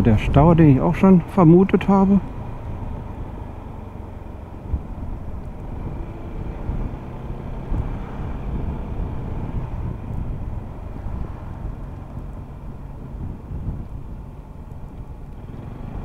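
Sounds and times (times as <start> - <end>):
wind rush: 0.0 - 16.0
scooter engine running: 1.8 - 16.0.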